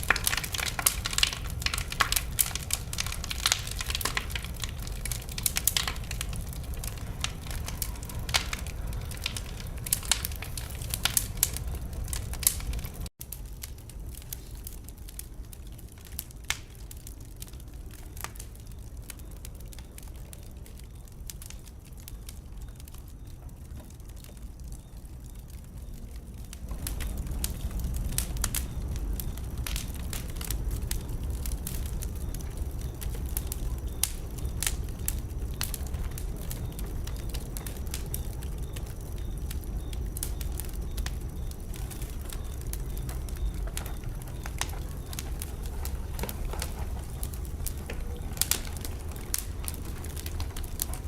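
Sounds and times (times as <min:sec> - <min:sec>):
fire low rumble: 0:00.0 - 0:51.0
wood fire crackling and popping: 0:00.0 - 0:51.0.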